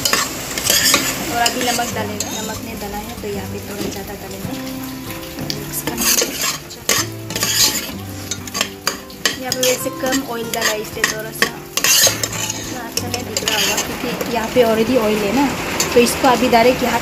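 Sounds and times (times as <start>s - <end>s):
spoon scraping frying pan: 0.0s - 16.2s
paste sizzling in hot oil: 0.0s - 17.0s.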